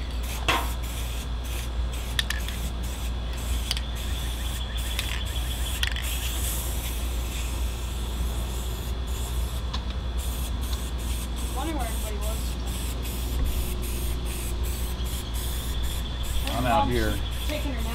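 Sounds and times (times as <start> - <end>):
aerosol can spraying: 0.1 - 9.6, 10.2 - 17.9.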